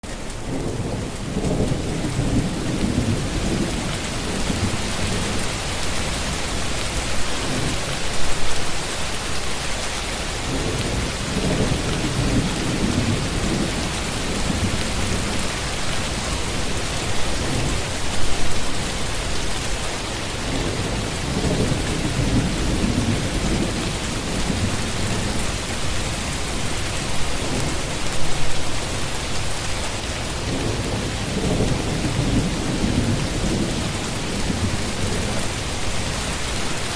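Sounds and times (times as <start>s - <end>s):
heavy rain hissing: 0.0s - 36.9s
low rumbles of thunder: 0.3s - 8.5s, 10.4s - 19.7s, 20.4s - 28.9s, 30.4s - 36.8s.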